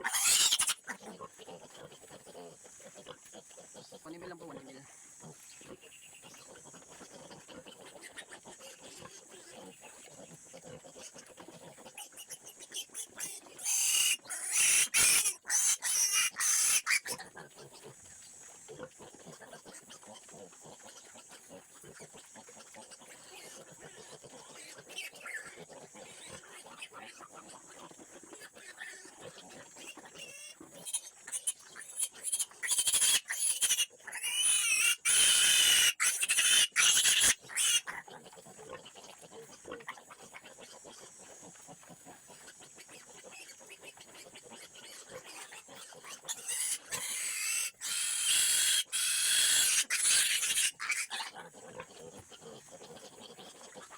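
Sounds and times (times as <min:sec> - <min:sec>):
pig squealing: 0:00.0 - 0:09.2, 0:10.6 - 0:17.7, 0:21.9 - 0:27.5, 0:28.3 - 0:41.6, 0:42.6 - 0:53.9.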